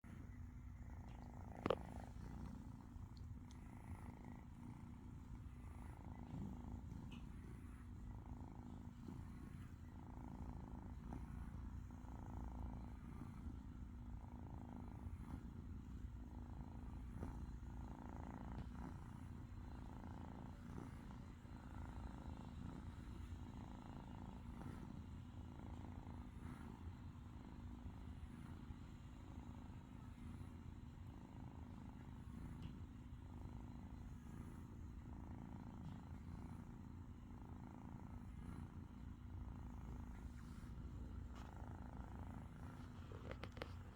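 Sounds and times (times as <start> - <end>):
kitten purring: 0.0 - 43.9.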